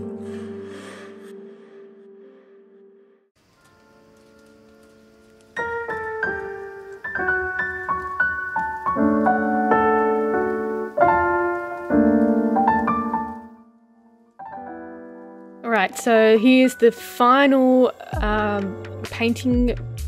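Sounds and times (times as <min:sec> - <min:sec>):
gentle piano melody: 0:00.0 - 0:01.8, 0:03.4 - 0:19.0.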